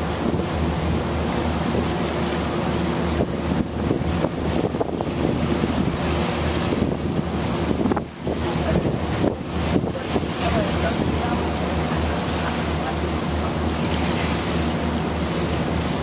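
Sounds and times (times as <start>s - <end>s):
ferry engine droning: 0.0s - 16.0s
water washing past hull: 0.0s - 16.0s
wind buffeting microphone: 3.1s - 16.0s.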